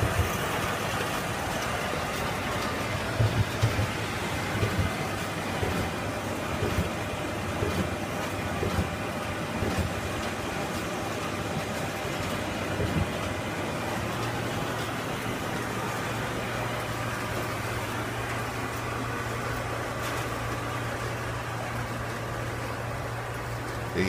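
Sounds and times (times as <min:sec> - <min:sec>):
printer mechanical whir: 0:00.0 - 0:24.0.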